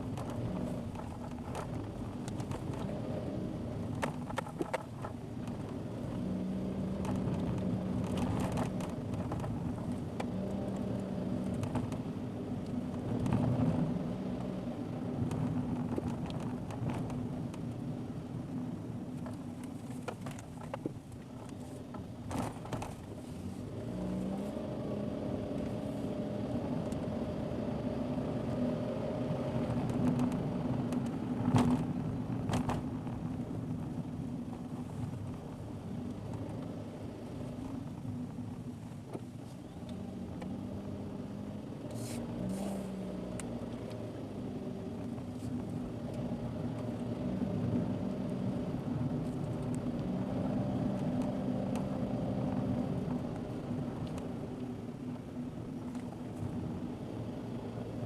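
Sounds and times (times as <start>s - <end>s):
car engine running: 0.0s - 58.0s
tyre and road noise: 0.0s - 58.0s.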